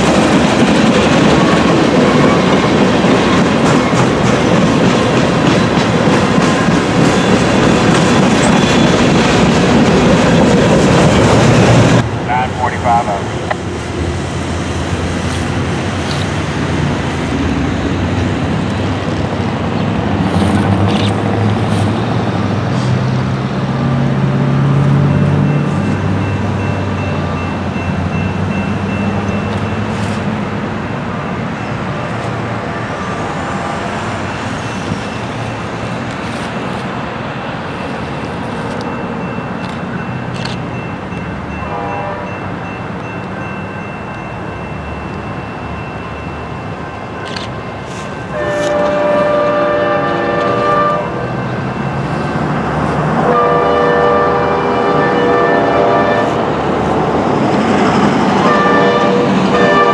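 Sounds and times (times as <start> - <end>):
traffic hum: 0.0 - 59.9.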